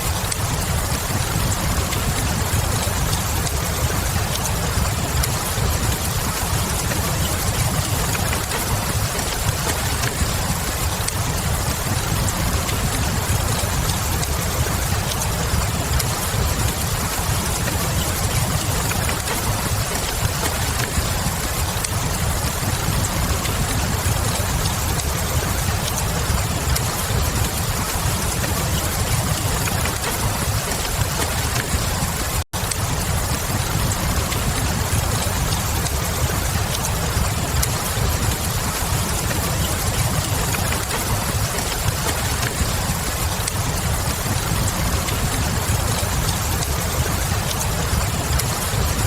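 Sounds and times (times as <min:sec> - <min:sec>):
steady rain: 0:00.0 - 0:49.0
wood fire crackling: 0:00.0 - 0:49.0.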